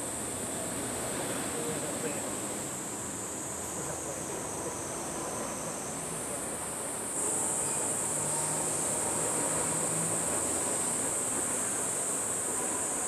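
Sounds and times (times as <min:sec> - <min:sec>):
faint outdoor background noise: 0:00.0 - 0:13.0
insects droning: 0:00.0 - 0:13.0.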